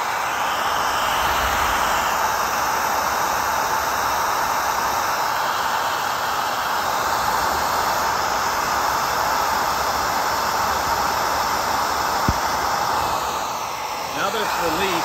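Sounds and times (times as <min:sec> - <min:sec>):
hot-air blower running: 0:00.0 - 0:15.0.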